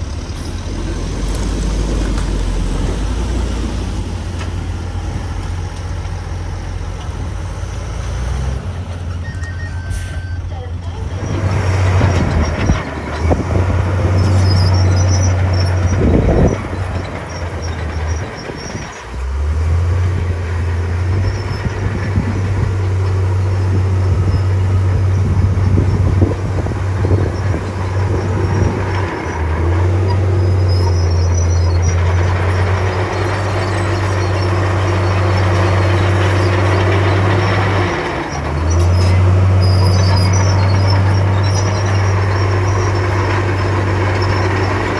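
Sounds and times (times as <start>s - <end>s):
bulldozer diesel engine drone: 0.0s - 44.9s
steel tracks squeaking and clanking: 0.0s - 44.9s.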